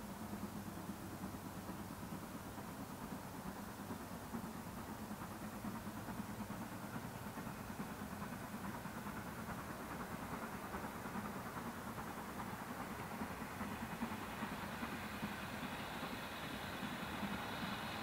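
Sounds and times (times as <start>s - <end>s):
distant steam locomotive rumble: 0.0s - 18.0s.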